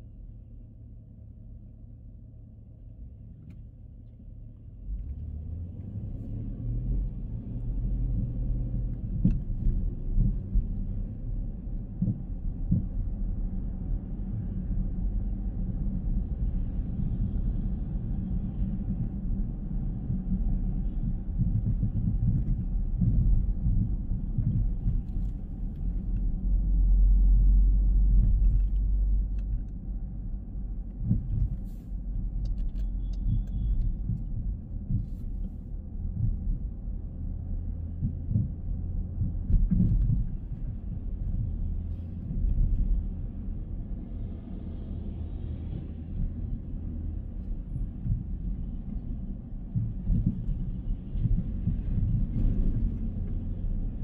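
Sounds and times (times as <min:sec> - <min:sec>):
car engine rumble: 0:00.0 - 0:54.0
road noise: 0:02.6 - 0:54.0.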